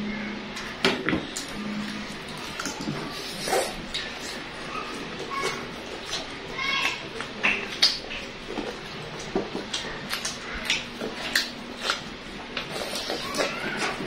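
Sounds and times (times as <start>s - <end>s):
wet chewing: 0.5s - 14.0s
lip-smacks: 2.4s - 14.0s.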